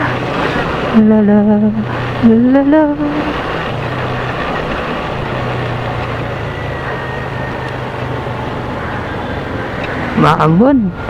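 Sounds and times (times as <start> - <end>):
motorcycle engine drone: 0.0 - 11.0
road and wind noise: 0.0 - 11.0.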